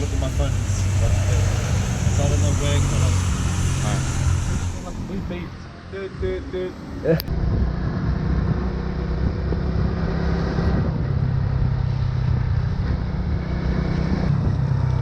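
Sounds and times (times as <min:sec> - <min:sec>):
motorbike engine humming: 0:00.0 - 0:15.0
wind and road noise: 0:00.0 - 0:15.0.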